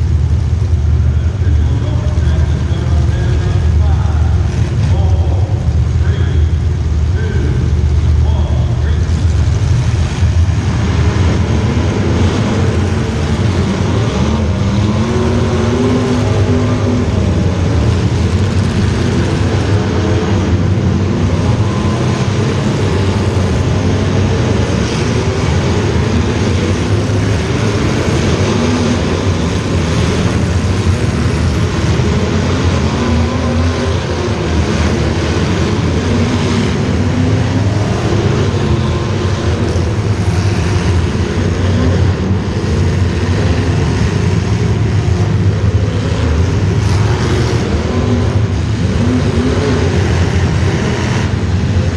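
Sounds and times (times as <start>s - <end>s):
racing engines running hard: 0.0s - 51.9s.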